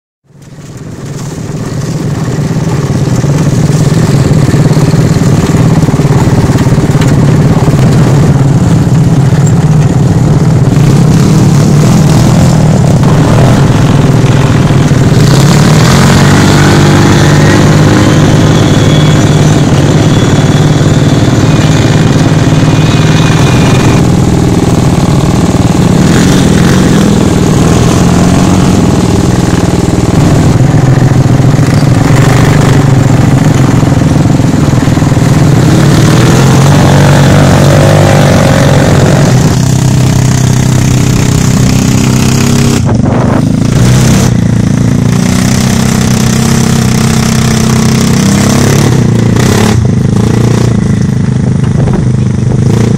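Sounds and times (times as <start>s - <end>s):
dune buggy engines revving: 0.3s - 52.9s.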